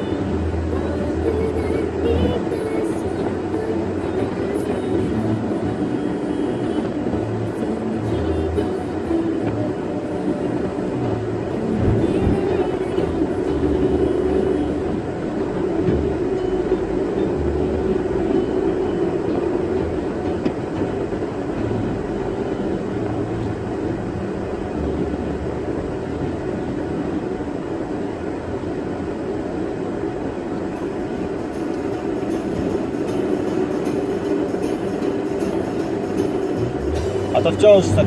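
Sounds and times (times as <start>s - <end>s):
car road noise rumble: 0.0s - 38.0s.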